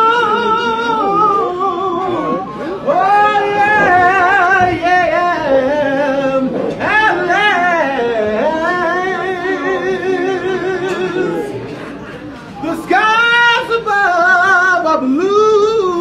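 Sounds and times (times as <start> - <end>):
man singing with vibrato: 0.0 - 16.0.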